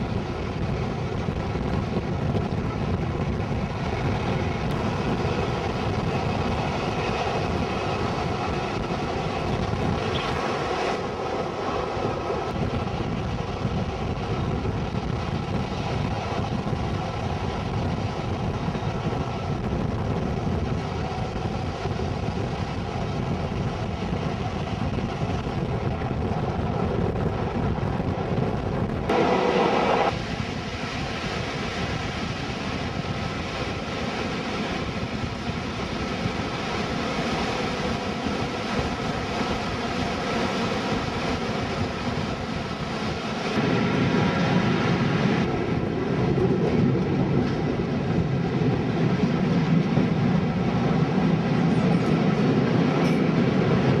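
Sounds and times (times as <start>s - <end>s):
rushing air: 0.0s - 54.0s
train wheels rumbling: 0.0s - 54.0s.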